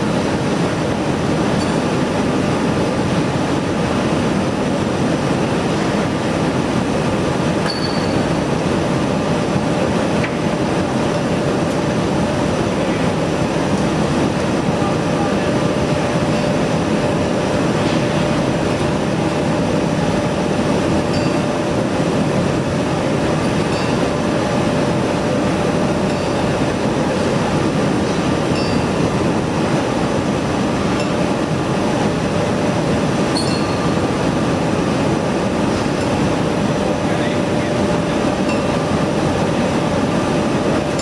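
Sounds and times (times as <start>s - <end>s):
heavy industrial machinery drone: 0.0s - 41.0s.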